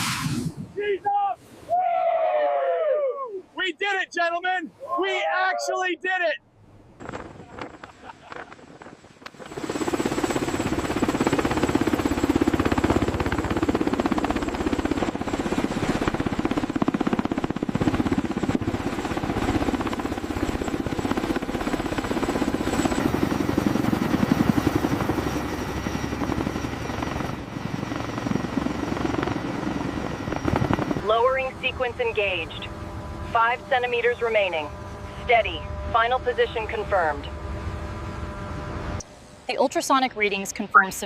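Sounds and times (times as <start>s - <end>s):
helicopter rotor chop: 7.0s - 41.0s.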